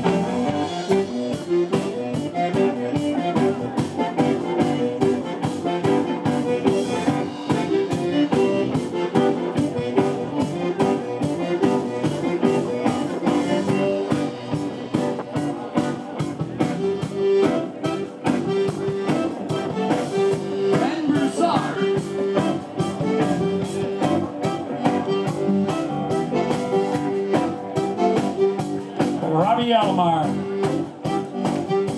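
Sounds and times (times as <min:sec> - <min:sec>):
band playing instrumental music: 0:00.0 - 0:31.9.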